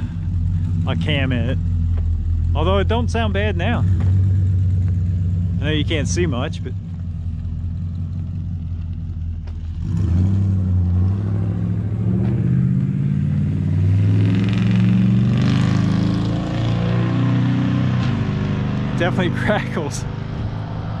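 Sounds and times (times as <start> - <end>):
exhaust crackling: 0.0 - 21.0
pickup engine accelerating: 0.0 - 21.0.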